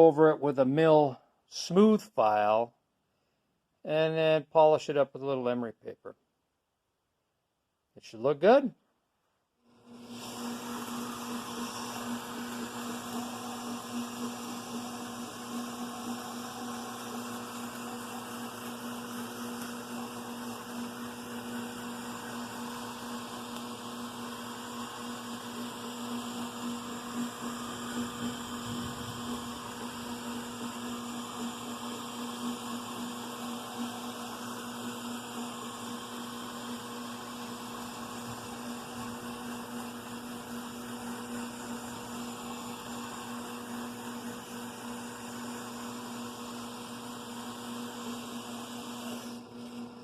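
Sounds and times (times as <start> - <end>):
electric motor humming: 9.7 - 50.0.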